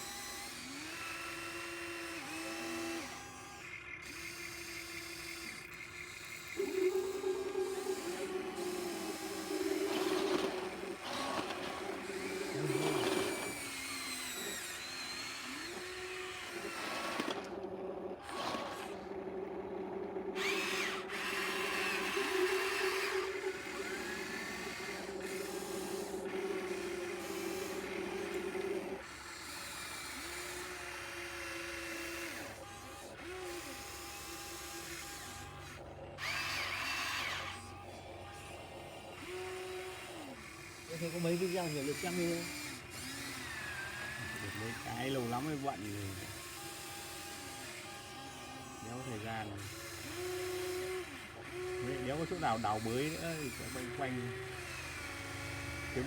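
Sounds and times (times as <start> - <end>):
small electric motor whining: 0.0 - 56.0.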